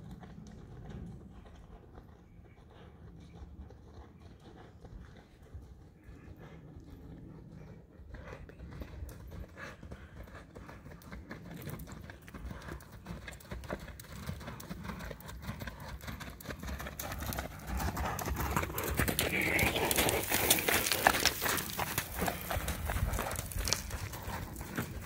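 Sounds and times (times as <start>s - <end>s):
horse hoofbeats on sand: 0.0s - 25.0s.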